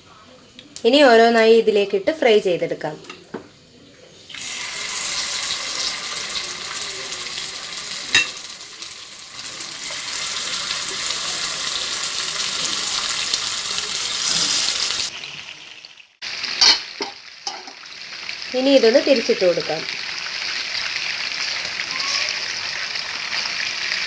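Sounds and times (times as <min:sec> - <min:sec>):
chicken sizzling in hot oil: 0:04.2 - 0:24.0.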